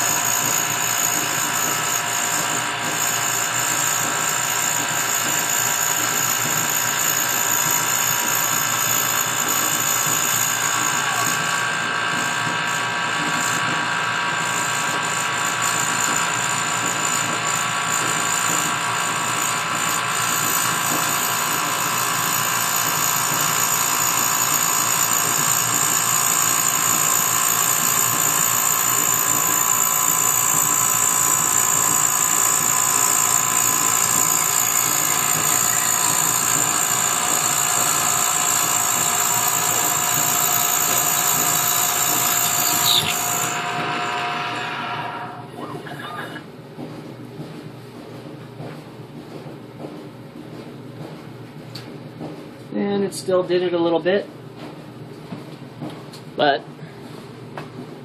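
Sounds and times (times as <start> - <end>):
end mill cutting acrylic: 0.0 - 46.4
router spindle high-pitched whine: 0.0 - 46.4.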